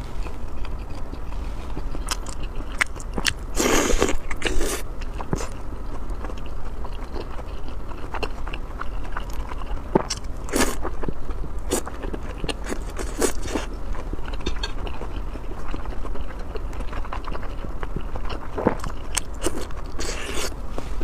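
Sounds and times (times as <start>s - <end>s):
steady low hum: 0.0s - 21.0s
crunchy crackly chewing: 0.1s - 20.6s
person chewing and biting food: 0.2s - 20.6s.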